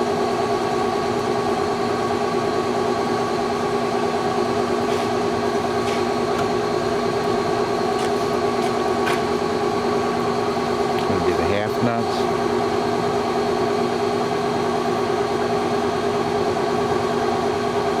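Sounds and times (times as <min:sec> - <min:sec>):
lathe gear train humming: 0:00.9 - 0:17.9.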